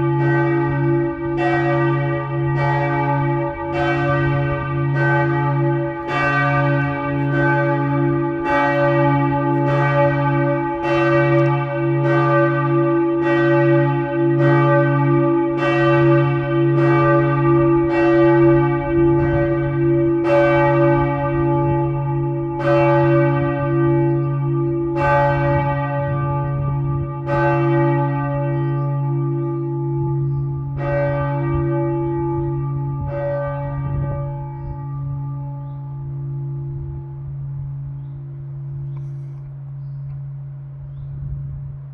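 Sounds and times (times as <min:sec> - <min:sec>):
church bells ringing: 0:00.0 - 0:40.8.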